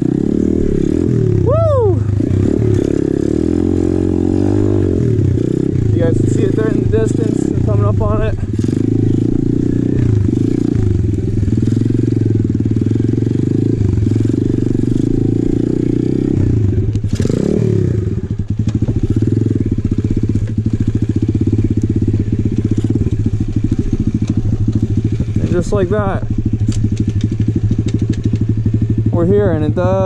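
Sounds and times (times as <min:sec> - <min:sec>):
motorbike engine running: 0:00.0 - 0:30.0.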